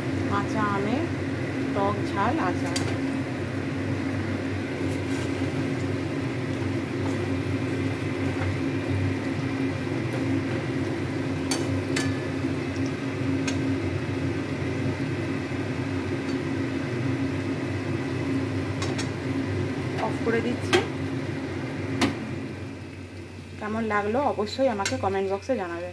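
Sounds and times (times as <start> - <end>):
oil bubbling: 0.0 - 25.5
steady low hum: 0.0 - 25.9.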